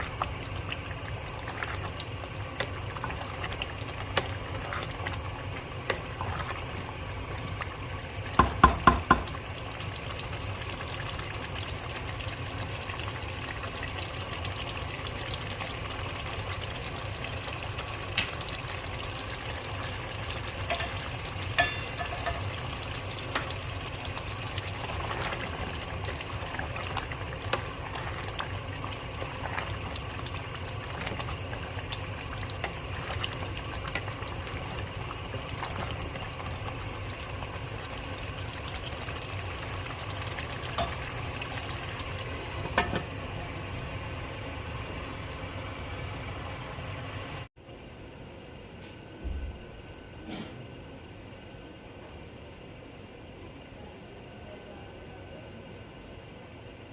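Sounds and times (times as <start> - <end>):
curry bubbling in a pot: 0.0 - 47.5.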